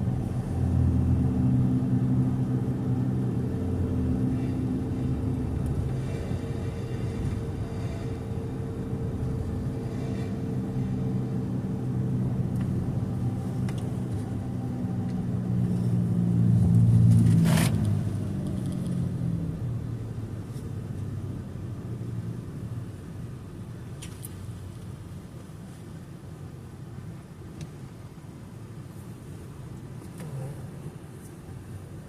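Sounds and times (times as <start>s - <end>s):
car engine and road hum: 0.0s - 32.0s.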